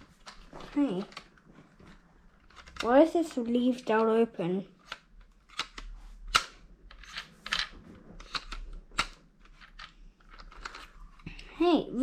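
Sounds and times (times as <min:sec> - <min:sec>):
plastic clicks: 0:00.0 - 0:04.2, 0:04.8 - 0:11.5.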